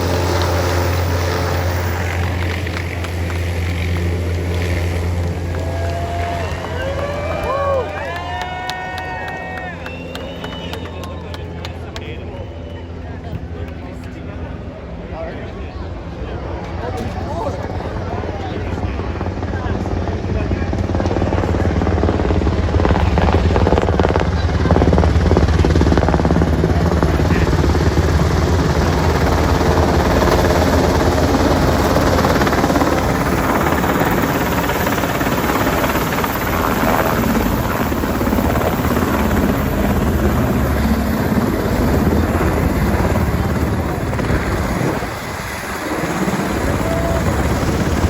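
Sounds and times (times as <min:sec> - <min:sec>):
helicopter rotor and engine: 0:00.0 - 0:48.0.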